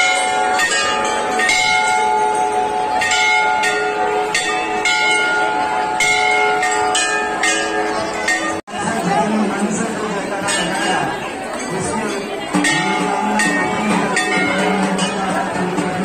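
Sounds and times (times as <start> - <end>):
temple bell clanging: 0.0 - 16.0.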